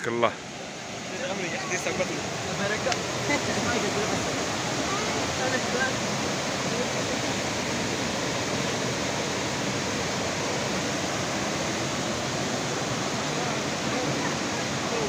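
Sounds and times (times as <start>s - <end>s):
water rushing over cascades: 0.0s - 15.0s.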